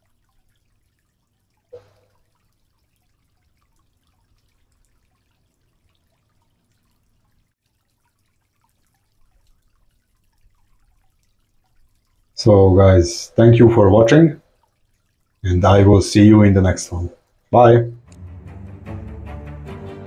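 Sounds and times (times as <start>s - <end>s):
water dripping and popping: 0.0s - 18.2s.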